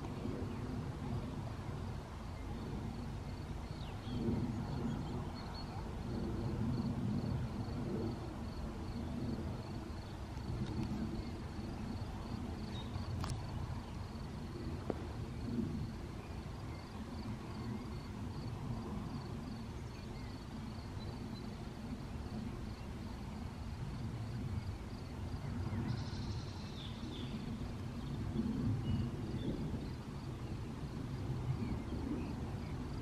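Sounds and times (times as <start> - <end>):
wind rumbling on microphone: 0.0 - 33.0.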